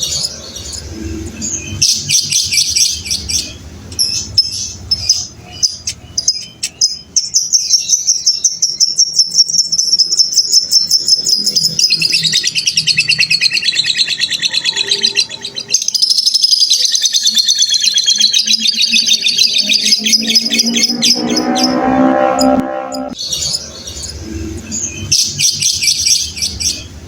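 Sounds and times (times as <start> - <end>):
lovebird chattering song: 0.0 - 21.8, 23.2 - 27.0.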